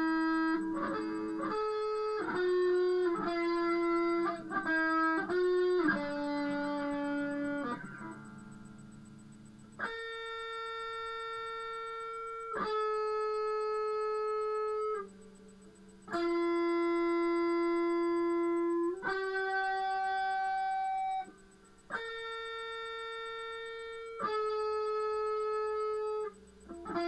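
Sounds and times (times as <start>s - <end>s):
electric guitar sustained notes: 0.0s - 15.4s, 16.1s - 27.0s.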